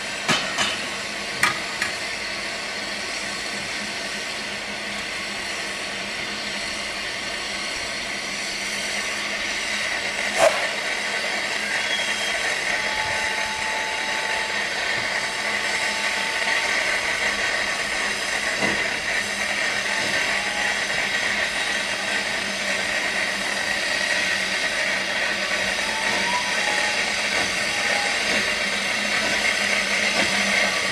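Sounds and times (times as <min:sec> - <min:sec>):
steam locomotive hissing: 0:00.0 - 0:30.9.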